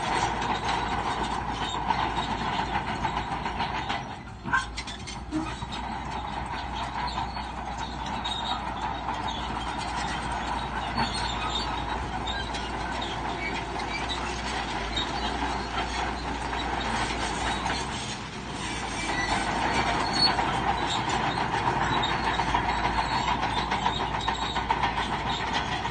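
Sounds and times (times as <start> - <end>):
diesel engine running: 0.0 - 25.9
steel tracks clattering and squealing: 0.0 - 25.9.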